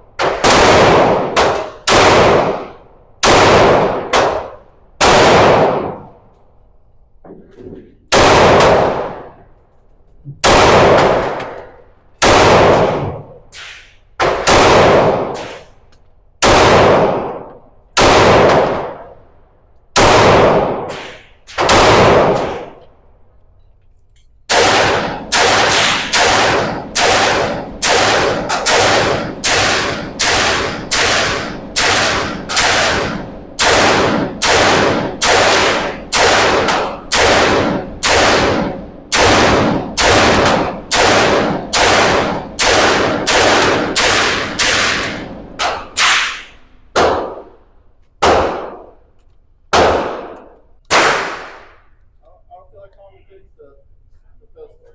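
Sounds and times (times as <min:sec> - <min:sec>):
gunshots with echoing tail: 0:00.1 - 0:06.2, 0:08.0 - 0:09.5, 0:10.4 - 0:15.8, 0:16.4 - 0:19.3, 0:19.9 - 0:22.8, 0:24.5 - 0:49.1, 0:49.7 - 0:51.9.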